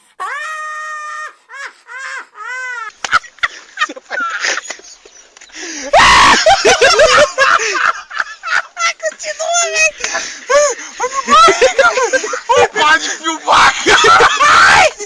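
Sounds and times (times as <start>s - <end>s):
loud shouting or laughter: 0.2s - 4.8s, 5.8s - 15.0s.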